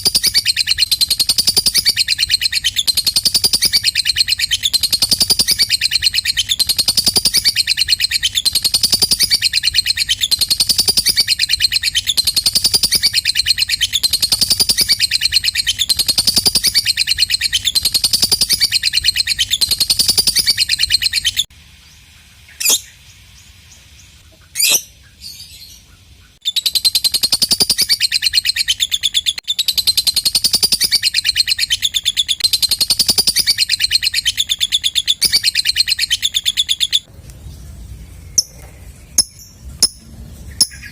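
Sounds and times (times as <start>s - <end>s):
lovebird chattering trill: 0.0s - 21.5s, 24.4s - 37.1s, 38.3s - 40.9s.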